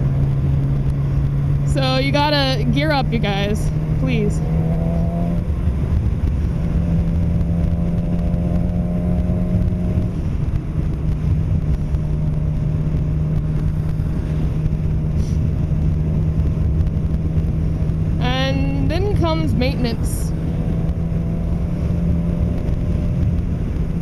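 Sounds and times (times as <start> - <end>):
motorcycle engine running: 0.0 - 24.0
wind rush: 0.0 - 24.0.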